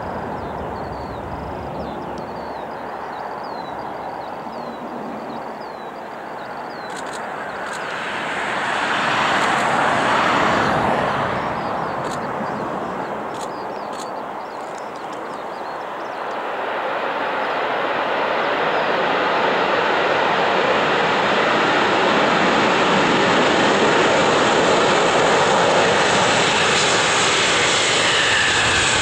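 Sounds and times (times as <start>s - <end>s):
jet airliner roar landing: 0.0s - 29.0s.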